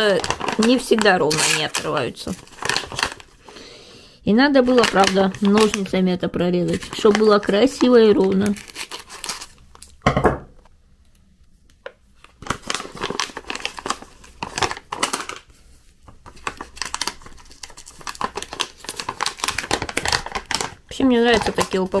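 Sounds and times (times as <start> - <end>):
foil pouch crinkling: 0.0 - 3.6, 4.5 - 9.9, 12.2 - 22.0.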